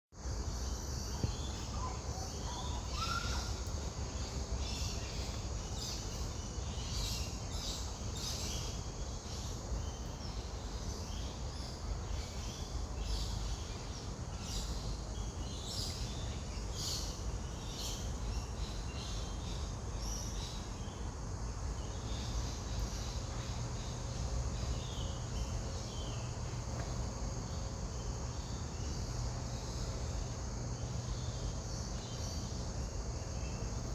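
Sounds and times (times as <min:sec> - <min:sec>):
insects chirring: 0:00.2 - 0:33.9
small birds calling: 0:00.3 - 0:33.9.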